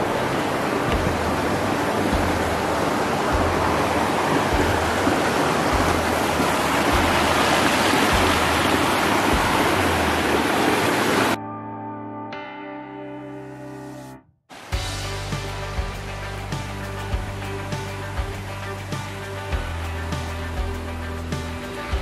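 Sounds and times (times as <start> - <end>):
creek water rushing over rocks: 0.0 - 11.4, 14.5 - 22.0.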